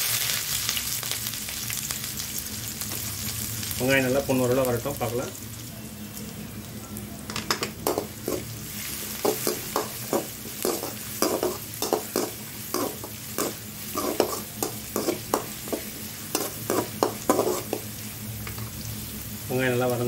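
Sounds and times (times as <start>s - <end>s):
shallots sizzling in oil: 0.0s - 6.8s, 7.4s - 20.0s.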